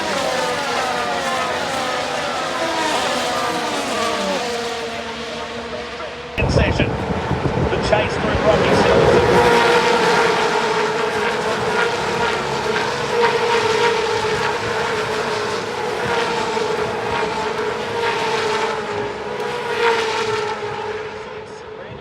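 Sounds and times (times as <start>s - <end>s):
racing car engine at high revs: 0.0s - 22.0s.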